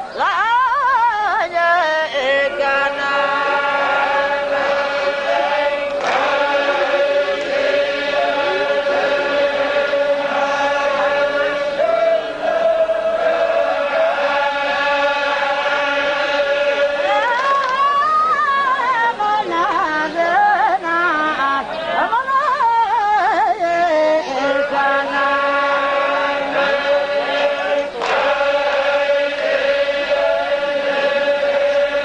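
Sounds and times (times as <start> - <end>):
devotional chanting voices: 0.0 - 32.0.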